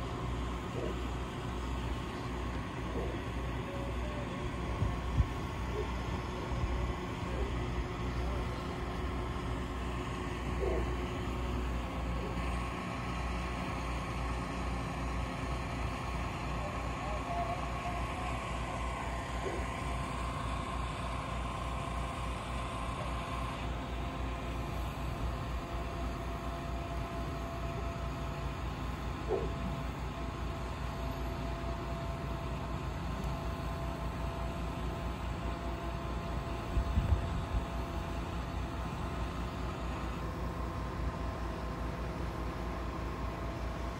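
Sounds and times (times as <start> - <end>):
diesel engine running: 0.0 - 43.9
faint steady whine: 0.0 - 43.9.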